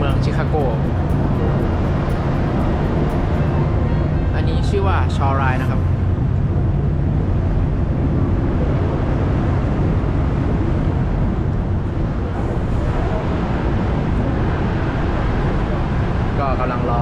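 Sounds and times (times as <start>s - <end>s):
boat engine rumbling: 0.0s - 17.0s
wind on microphone: 0.0s - 17.0s.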